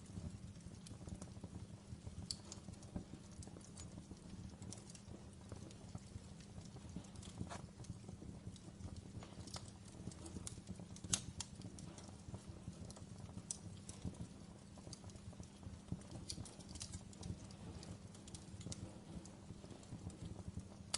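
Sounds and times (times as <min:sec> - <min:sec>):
wood logs crackling and popping: 0:00.0 - 0:20.9
steady low rumble: 0:01.4 - 0:20.9.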